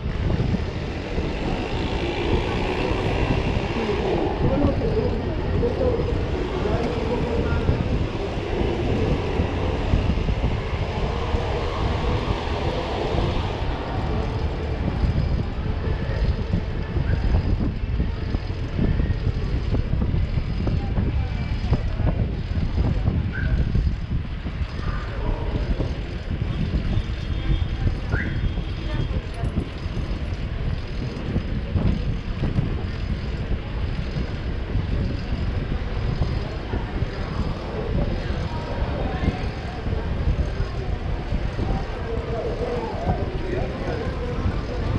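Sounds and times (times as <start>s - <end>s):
city street traffic: 0.0s - 44.9s
wind rumble on microphone: 0.0s - 44.9s.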